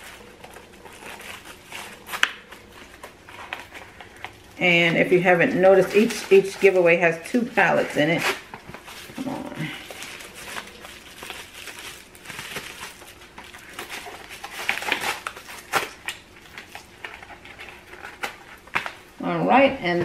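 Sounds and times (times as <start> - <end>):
bubble-wrap pouch crinkling: 0.0 - 19.1.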